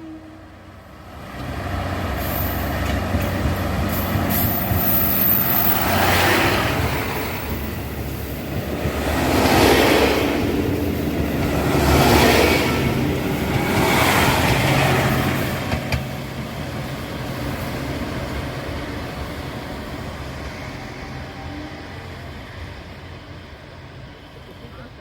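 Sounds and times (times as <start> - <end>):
rushing rail and wheel noise: 0.0 - 25.0.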